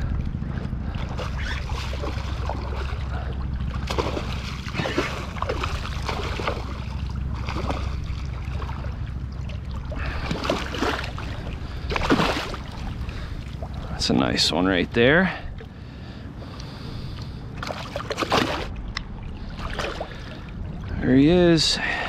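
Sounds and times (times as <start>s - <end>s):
water sloshing and splashing: 0.0s - 22.0s
wind rumble on microphone: 0.0s - 22.0s.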